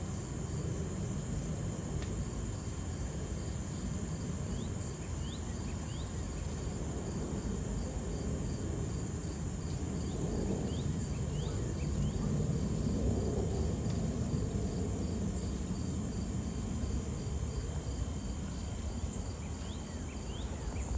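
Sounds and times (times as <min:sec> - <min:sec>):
distant jet rumble: 0:00.0 - 0:20.9
high insect drone: 0:00.0 - 0:20.9
insect chirps: 0:00.0 - 0:20.9.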